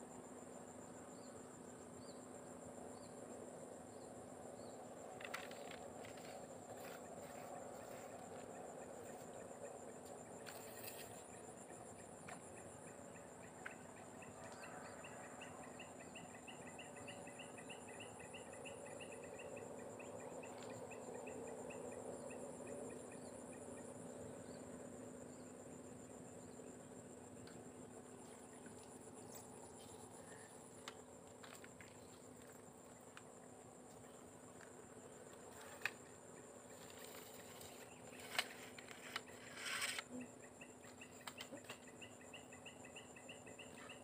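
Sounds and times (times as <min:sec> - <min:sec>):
high-pitched insect chorus trilling: 0:00.0 - 0:44.0.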